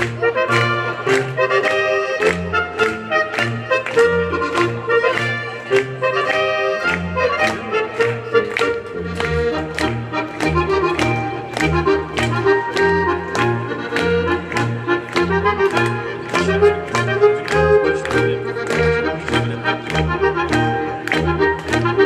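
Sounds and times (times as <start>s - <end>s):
folk dance music with accordion: 0.0s - 22.0s.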